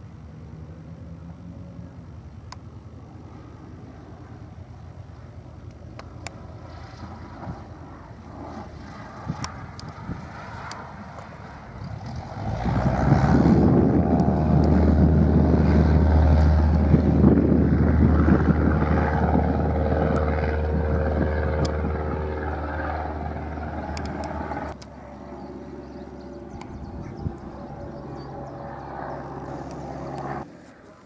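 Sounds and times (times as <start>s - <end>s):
light aircraft taking off: 0.0s - 31.0s.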